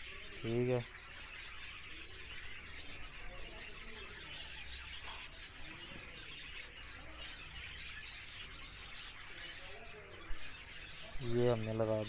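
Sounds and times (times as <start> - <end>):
finches chirping and twittering: 0.0 - 12.0.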